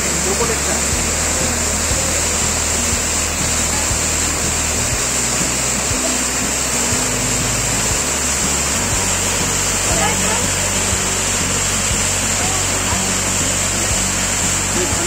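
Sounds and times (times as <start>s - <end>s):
background music with bass and beat: 0.0s - 15.0s
waterfall rushing over rocks: 0.0s - 15.0s.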